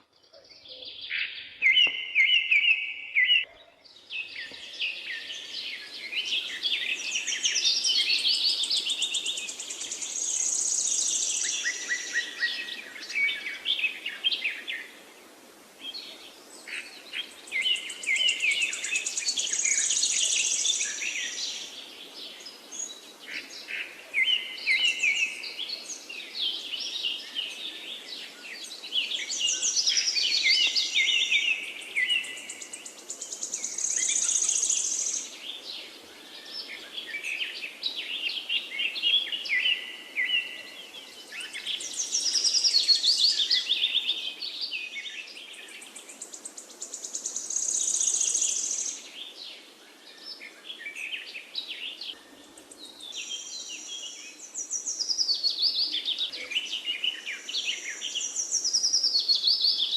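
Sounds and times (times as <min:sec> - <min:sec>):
songbird singing trills: 0:00.0 - 0:15.0, 0:15.8 - 0:59.9.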